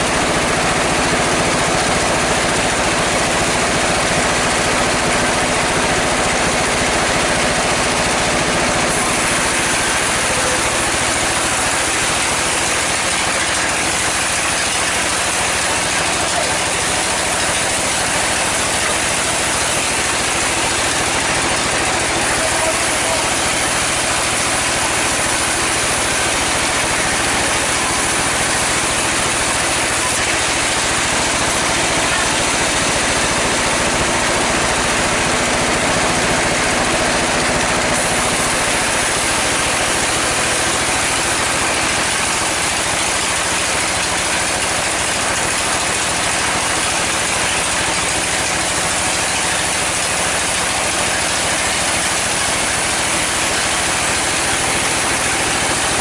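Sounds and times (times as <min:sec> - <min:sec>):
sawmill saw cutting logs: 0:00.0 - 0:56.0.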